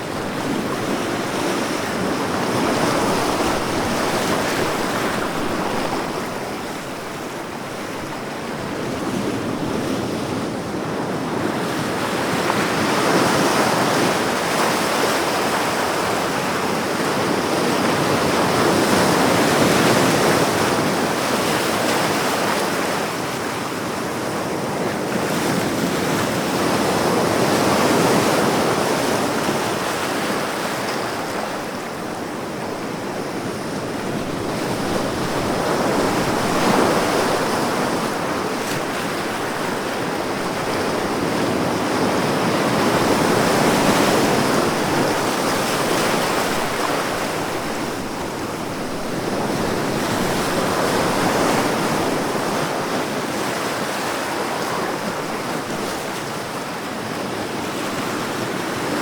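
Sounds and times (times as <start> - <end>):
ocean waves breaking: 0.0 - 23.8, 24.4 - 59.0.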